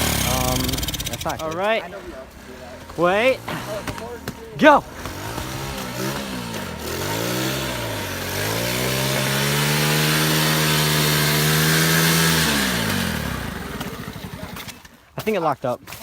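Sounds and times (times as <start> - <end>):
small motorcycle engine revving: 0.0 - 15.1.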